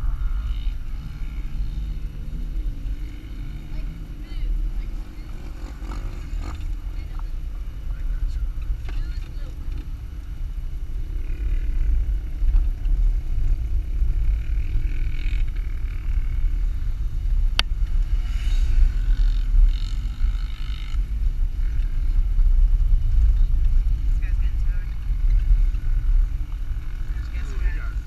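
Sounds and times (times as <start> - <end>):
engine and drivetrain rumble: 0.0 - 28.0.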